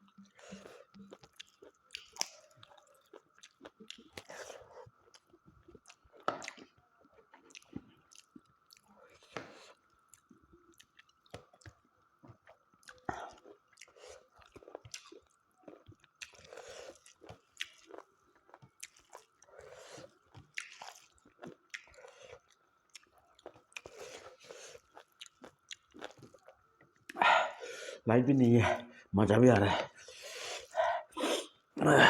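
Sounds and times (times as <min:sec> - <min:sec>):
person chewing food: 0:00.0 - 0:27.7, 0:29.5 - 0:32.0.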